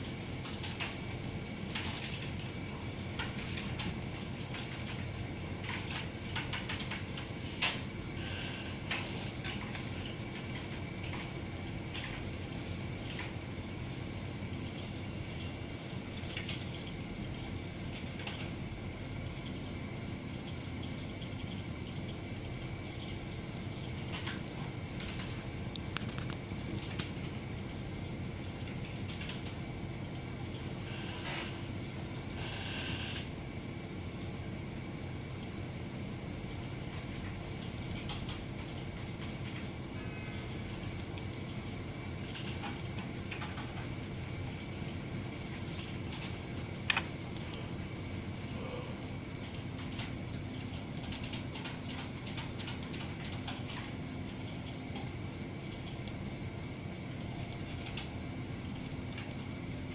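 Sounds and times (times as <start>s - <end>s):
low hum and hiss: 0.0s - 59.9s.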